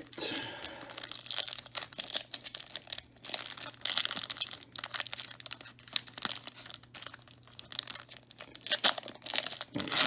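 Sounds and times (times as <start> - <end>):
wrapper crinkled and torn open: 0.0 - 10.0.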